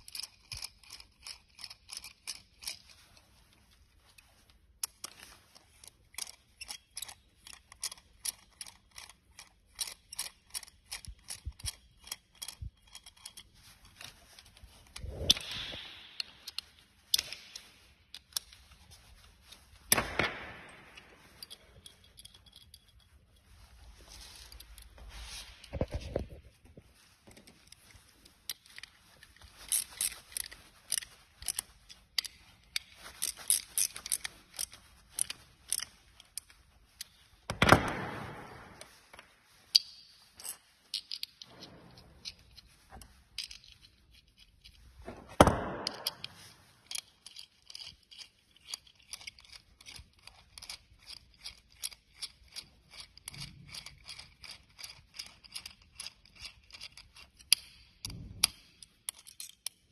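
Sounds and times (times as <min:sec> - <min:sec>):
tools clicking and scraping metal: 0:00.0 - 0:59.9.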